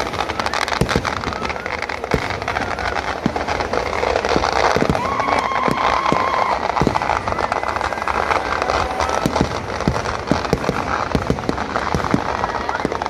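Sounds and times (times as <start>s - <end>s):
firecrackers crackling: 0.0s - 13.0s
firework bangs: 0.0s - 13.0s.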